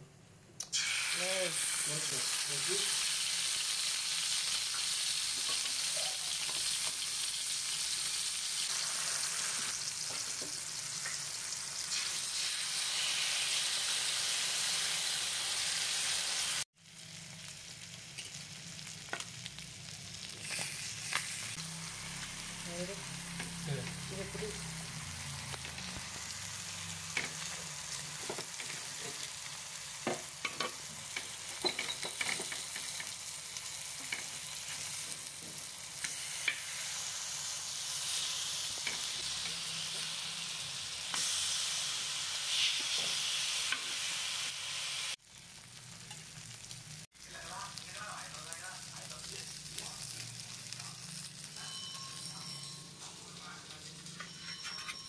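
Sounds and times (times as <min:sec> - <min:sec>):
fish sizzling in oil: 0:00.7 - 0:51.7.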